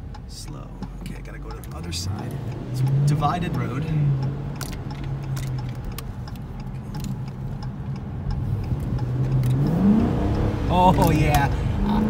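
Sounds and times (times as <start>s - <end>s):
car engine revving: 0.0s - 12.0s
turn signal ticking: 0.0s - 12.0s.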